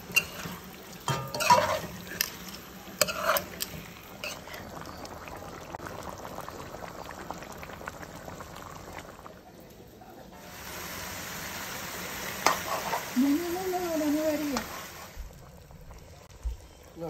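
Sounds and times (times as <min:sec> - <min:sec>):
curry simmering and bubbling: 0:00.0 - 0:17.0.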